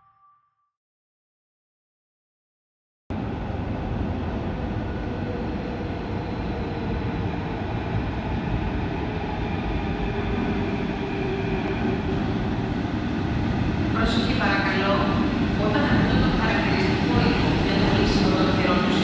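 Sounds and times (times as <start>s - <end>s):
metro train rumble: 3.1s - 19.0s.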